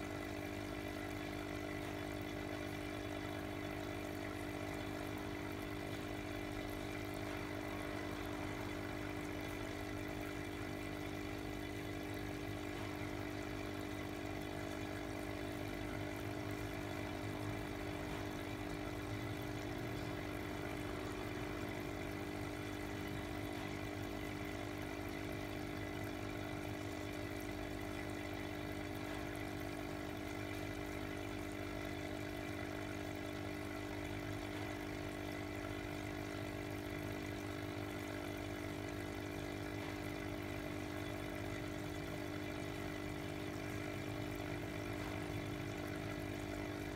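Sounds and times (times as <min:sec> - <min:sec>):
aquarium pump humming: 0:00.0 - 0:46.9.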